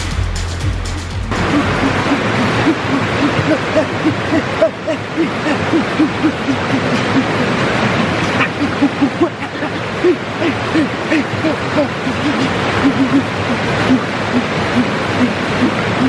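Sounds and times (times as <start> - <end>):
water rushing over rocks: 1.3 - 16.0.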